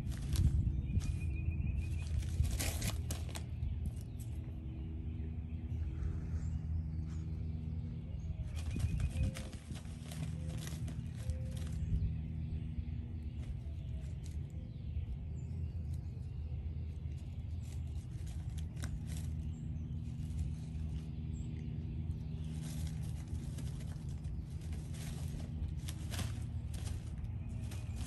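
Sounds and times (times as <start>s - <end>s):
paws scratching in pine needles: 0.0s - 4.5s, 7.0s - 28.0s
steady low hum: 0.0s - 28.0s.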